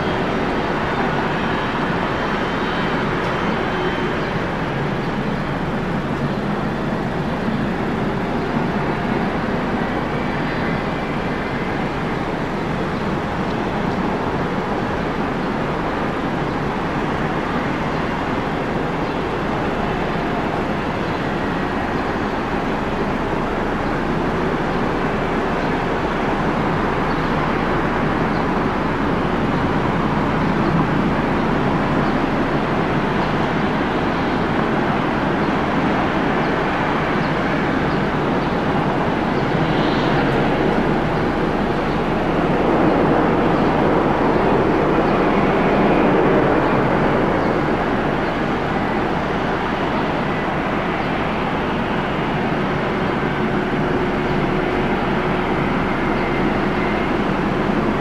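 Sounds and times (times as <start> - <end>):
jet engine rumble with whine: 0.0 - 58.0.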